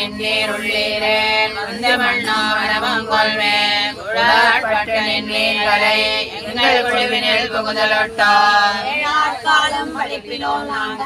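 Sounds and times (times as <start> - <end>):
women chanting: 0.0 - 11.0.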